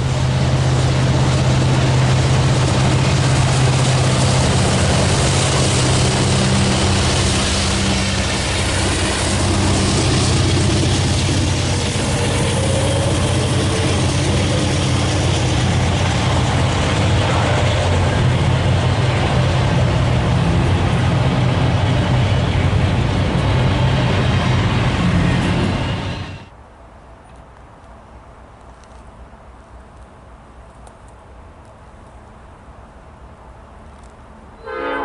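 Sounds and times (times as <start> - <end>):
freight train rumbling on rails: 0.0 - 26.6, 29.6 - 35.0.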